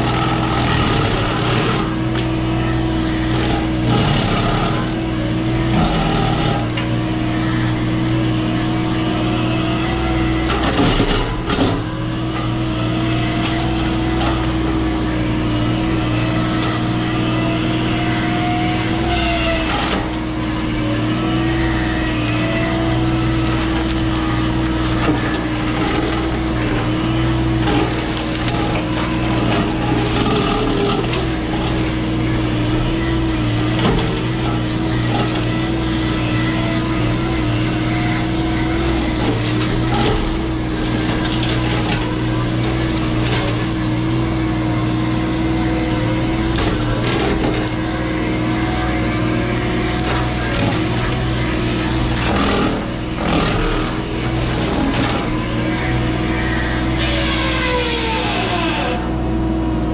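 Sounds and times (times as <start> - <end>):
machine engine droning hum: 0.0 - 59.9.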